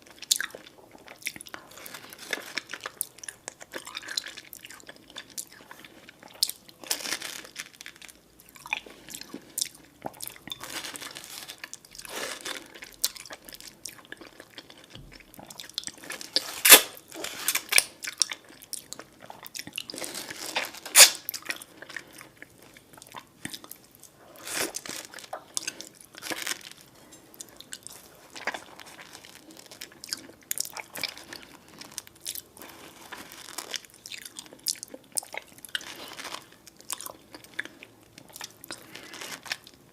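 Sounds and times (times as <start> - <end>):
person chewing and biting food: 0.0 - 39.8.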